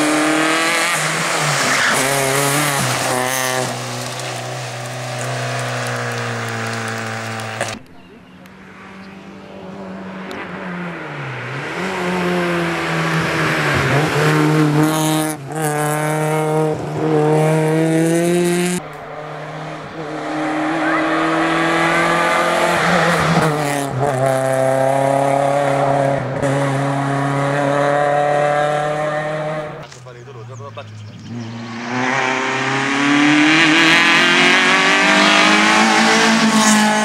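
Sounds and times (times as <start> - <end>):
rally car engine revving: 0.0 - 7.9, 8.5 - 37.0.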